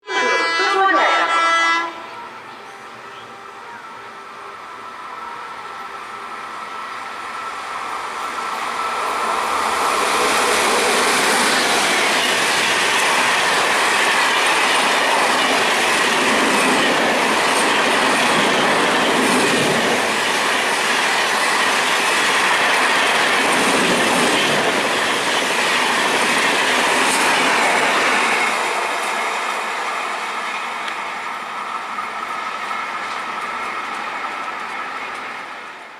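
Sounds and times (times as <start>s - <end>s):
train passing at speed: 0.0s - 35.9s
wheels rushing on rails: 1.9s - 35.9s.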